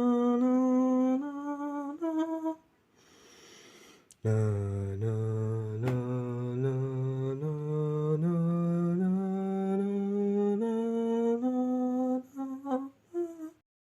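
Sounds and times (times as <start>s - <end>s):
person singing vocal scale: 0.0s - 2.7s, 4.1s - 13.6s.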